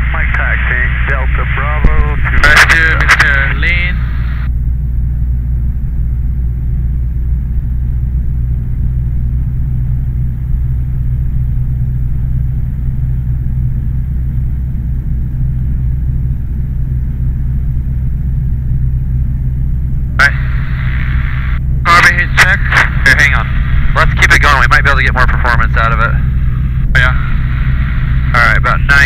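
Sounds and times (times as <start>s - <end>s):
propeller plane engine running: 0.0s - 29.0s.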